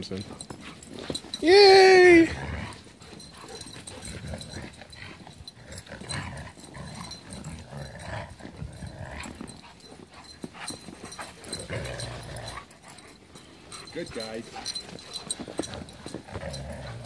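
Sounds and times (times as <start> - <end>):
dogs vocalising: 2.4 - 17.0.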